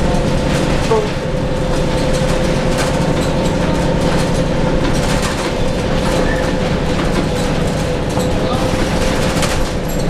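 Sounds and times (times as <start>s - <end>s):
bus body rattles: 0.0s - 10.0s
bus diesel engine rumbling: 0.0s - 10.0s
steady engine whine: 0.0s - 10.0s.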